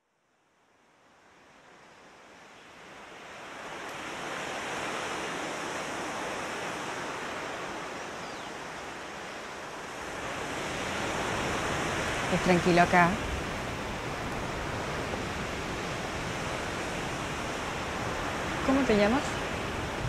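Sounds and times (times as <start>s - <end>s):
rushing outdoor ambience: 1.2s - 20.0s.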